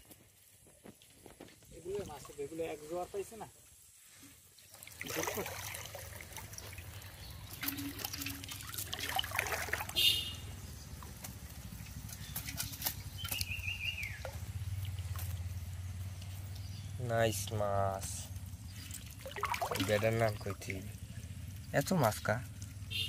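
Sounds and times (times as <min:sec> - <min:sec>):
water trickling and dripping: 0:00.9 - 0:23.0.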